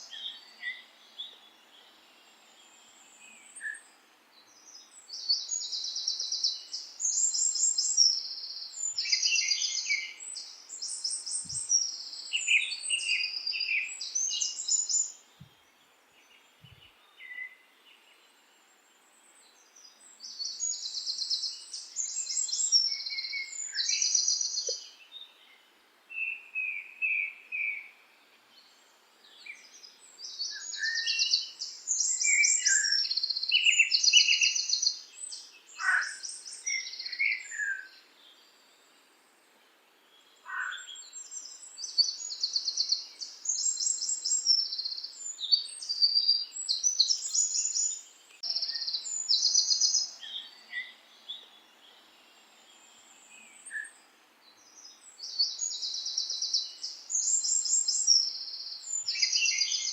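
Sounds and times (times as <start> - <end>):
songbirds chirping trills: 0.0 - 59.9.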